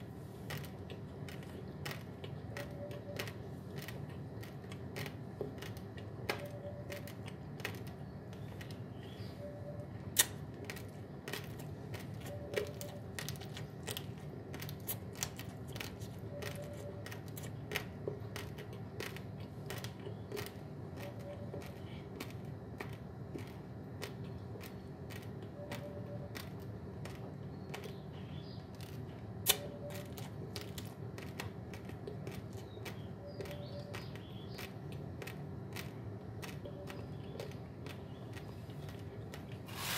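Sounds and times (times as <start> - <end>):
rice grains crunching when chewed: 0.0 - 9.2, 9.9 - 28.0, 28.7 - 39.9.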